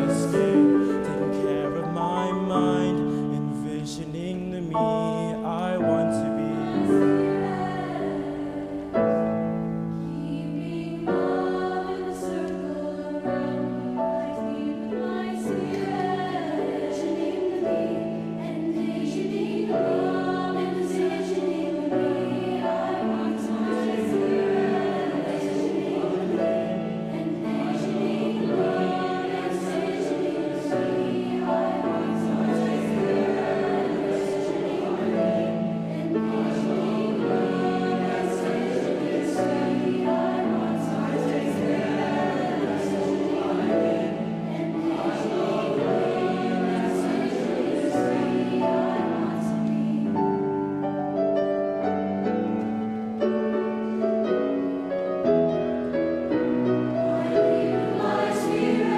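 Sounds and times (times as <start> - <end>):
youth choir singing gospel: 0.0 - 55.3, 56.2 - 58.9.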